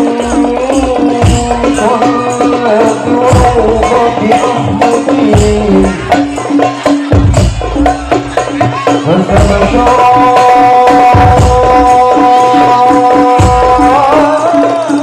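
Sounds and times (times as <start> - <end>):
person singing wavering melody: 0.0 - 7.1, 8.3 - 15.0
drum beats: 0.0 - 15.0.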